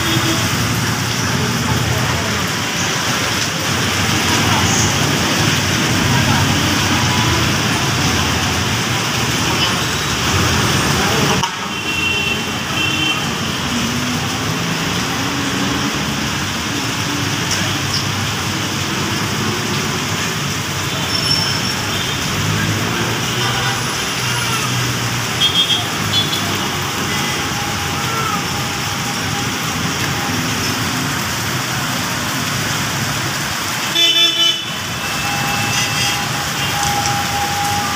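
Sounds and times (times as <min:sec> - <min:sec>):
heavy road traffic: 0:00.0 - 0:37.9
rain: 0:00.0 - 0:37.9.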